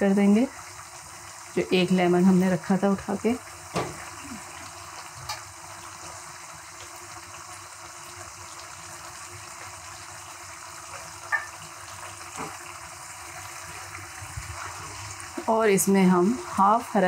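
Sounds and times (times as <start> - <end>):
gravy bubbling and sizzling: 0.0 - 17.0.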